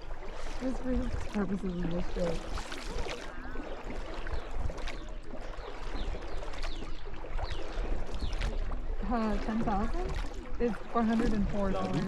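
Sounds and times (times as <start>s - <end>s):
low boat rumble: 0.0s - 12.0s
water wash: 0.0s - 12.0s.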